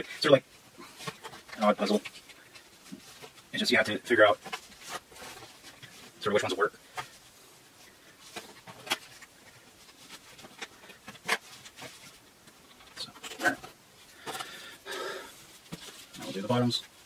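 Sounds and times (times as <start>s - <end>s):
handling rustle: 0.0s - 17.0s.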